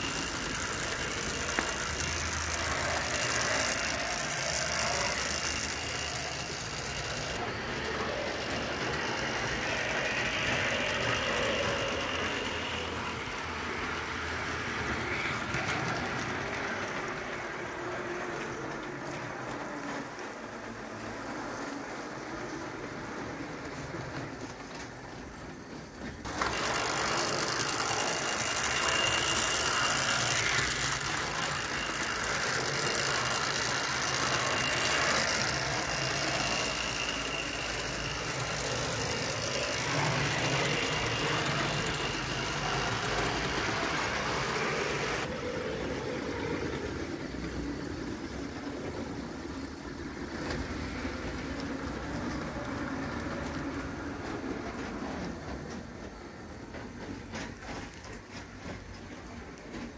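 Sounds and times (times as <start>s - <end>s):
toy train rattling on track: 0.0s - 59.9s.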